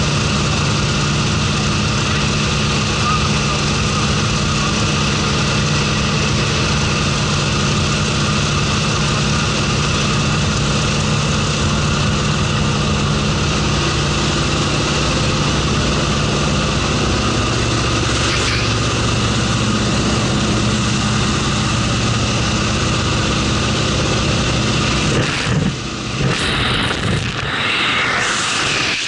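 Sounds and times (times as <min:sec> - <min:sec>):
aircraft engines droning: 0:00.0 - 0:29.0
rush of air noise: 0:00.0 - 0:29.0.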